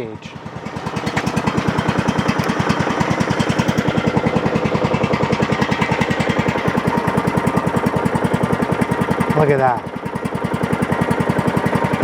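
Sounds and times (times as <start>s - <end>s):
lawn tractor engine idling: 0.0s - 12.0s.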